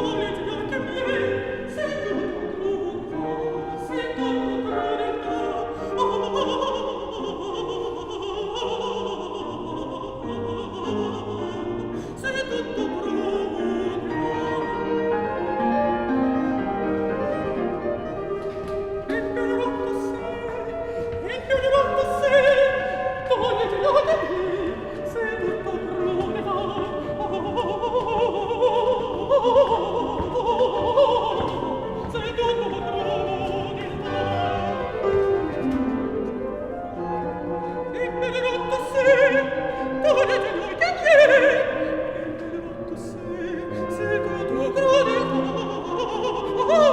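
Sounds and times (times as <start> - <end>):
classical accompaniment: 0.0 - 46.9
operatic singing: 0.0 - 46.9.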